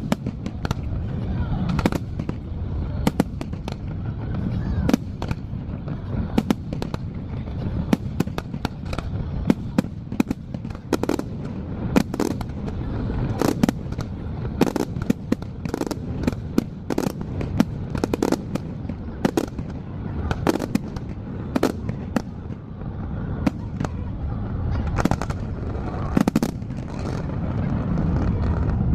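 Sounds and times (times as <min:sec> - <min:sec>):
fireworks cracks and bangs: 0:00.0 - 0:28.9.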